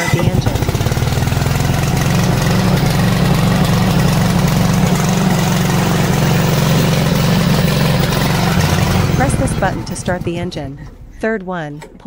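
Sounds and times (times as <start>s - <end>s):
gasoline engine running: 0.0s - 12.0s.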